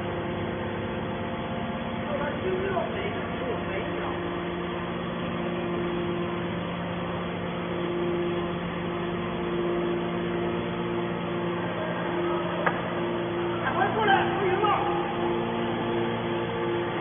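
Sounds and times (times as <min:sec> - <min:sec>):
hydraulic motor and pump humming: 0:00.0 - 0:17.0.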